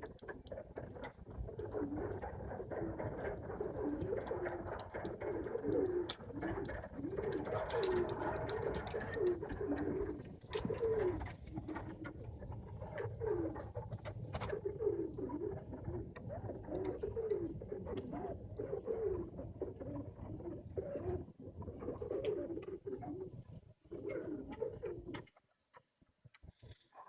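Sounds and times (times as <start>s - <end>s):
pigeons cooing: 0.0s - 25.4s.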